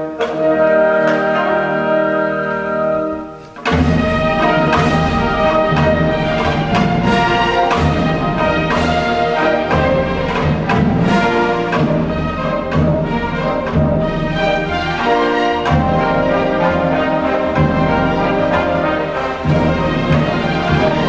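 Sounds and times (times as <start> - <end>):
orchestral music with brass: 0.0 - 21.0.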